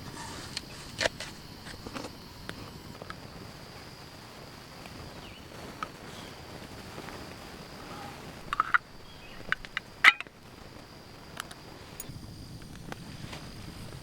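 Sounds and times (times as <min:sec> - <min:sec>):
campfire crackling: 0:00.0 - 0:14.0
fire popping and snapping: 0:00.0 - 0:14.0
high insect buzz: 0:00.0 - 0:14.0.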